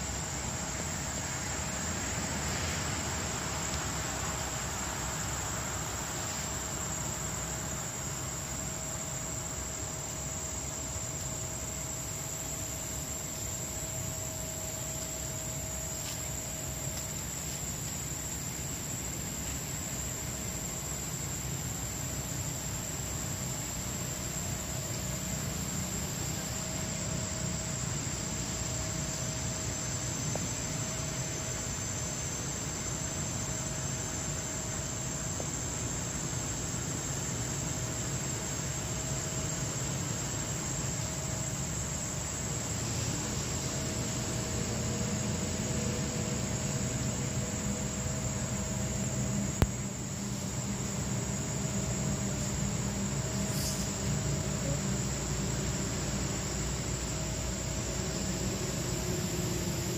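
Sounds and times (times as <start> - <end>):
high-pitched insect drone: 0.0 - 59.9
low hiss and rumble: 0.0 - 59.9.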